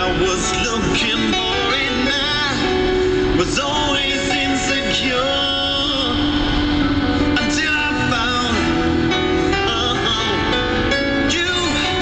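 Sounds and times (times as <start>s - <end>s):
man singing over guitar: 0.0s - 12.0s.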